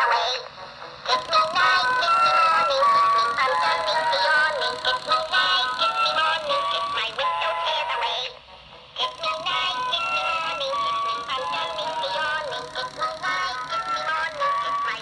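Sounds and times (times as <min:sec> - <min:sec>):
toy singing in cartoon voice: 0:00.0 - 0:08.4, 0:09.0 - 0:15.0.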